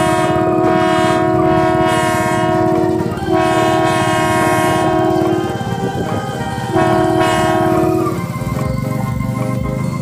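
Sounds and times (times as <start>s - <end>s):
train horn blasts: 0.0s - 8.2s
engine pulsing: 0.0s - 10.0s.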